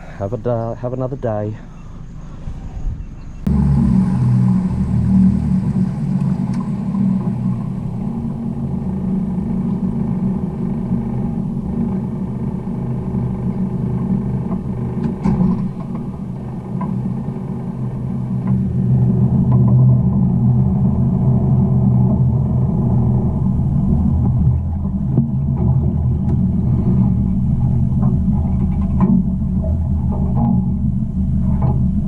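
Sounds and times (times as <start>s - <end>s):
outboard motor droning: 3.4s - 32.0s.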